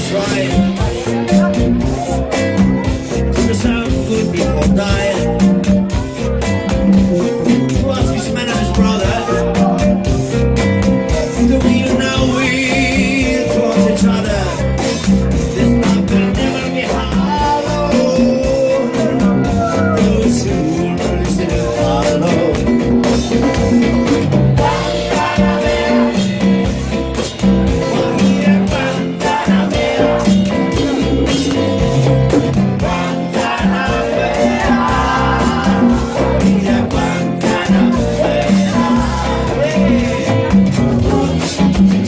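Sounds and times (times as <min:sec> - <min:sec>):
bass guitar: 0:00.0 - 0:42.0
drums with steady beat: 0:00.0 - 0:42.0
electric guitar: 0:00.0 - 0:42.0.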